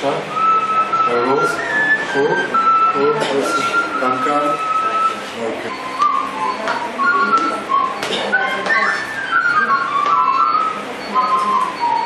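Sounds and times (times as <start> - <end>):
person whistling: 0.3 - 12.0.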